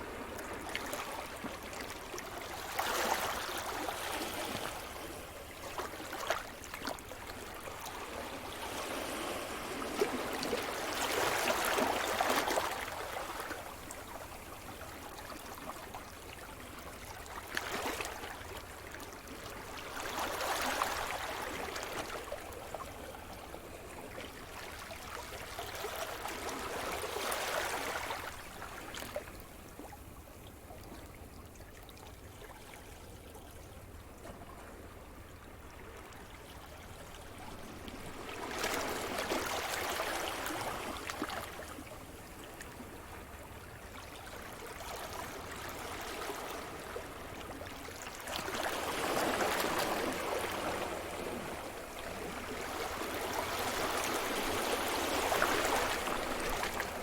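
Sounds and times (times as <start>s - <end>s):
waves breaking and washing in: 0.0s - 30.4s, 33.8s - 57.0s.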